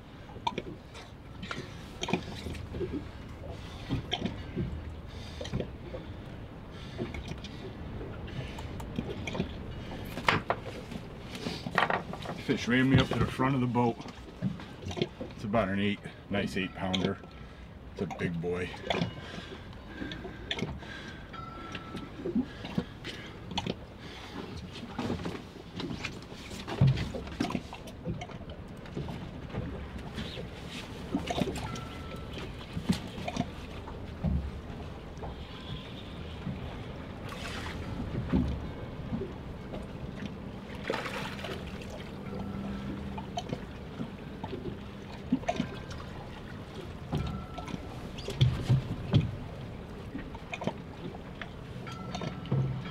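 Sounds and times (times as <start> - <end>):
low steady hum: 0.0 - 52.9
water lapping against boat hull: 0.0 - 52.9.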